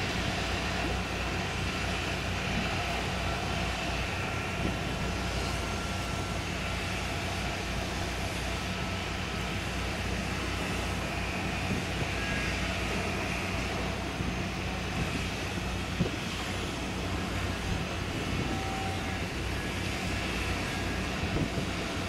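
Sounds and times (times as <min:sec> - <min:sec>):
marine engines droning: 0:00.0 - 0:22.0.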